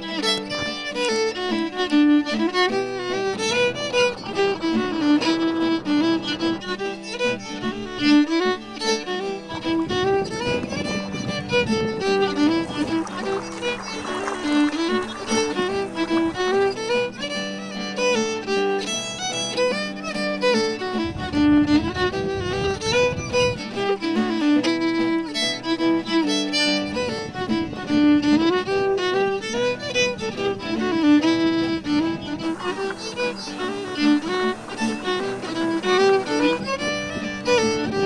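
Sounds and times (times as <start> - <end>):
background instrumental music: 0.0 - 38.0.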